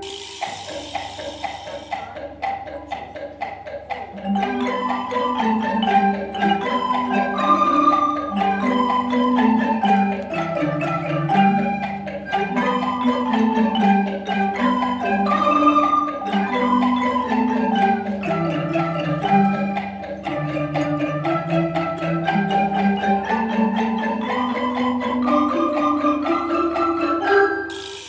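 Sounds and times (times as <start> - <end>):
marimbas and xylophones playing: 0.0 - 28.0.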